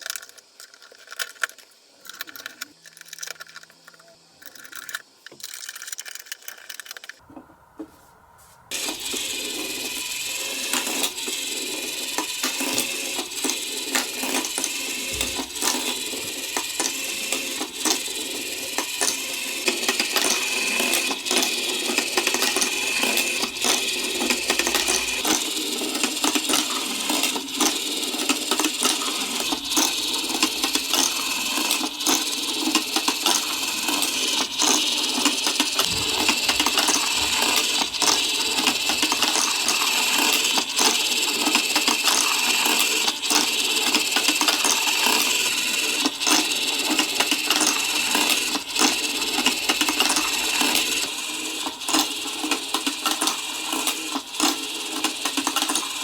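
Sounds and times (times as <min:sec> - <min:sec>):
marbles clattering along marble run: 0:00.0 - 0:07.2, 0:08.7 - 0:56.0.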